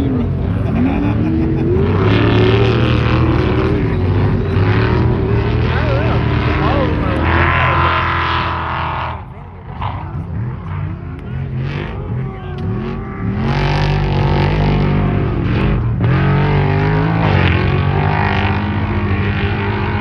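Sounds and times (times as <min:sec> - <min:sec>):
truck engines revving: 0:00.0 - 0:20.0.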